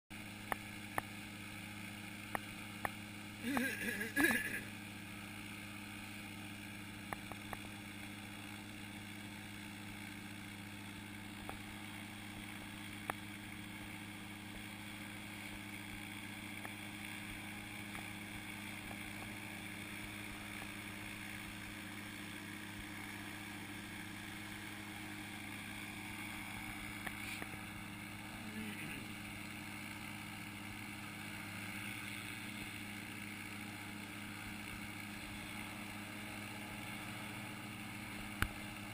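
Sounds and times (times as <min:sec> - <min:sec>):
engine idling low drone: 0:00.1 - 0:38.9.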